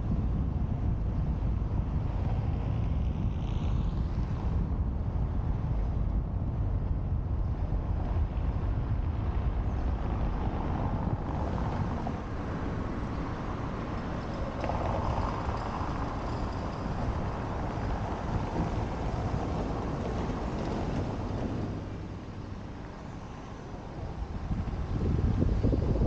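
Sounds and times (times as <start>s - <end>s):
tyre and road noise rumble: 0.0s - 26.0s
wind buffeting microphone: 0.0s - 26.0s.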